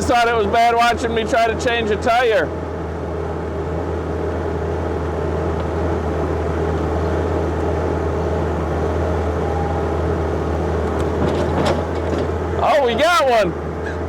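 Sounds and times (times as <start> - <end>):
diesel engine low drone: 0.0 - 14.0.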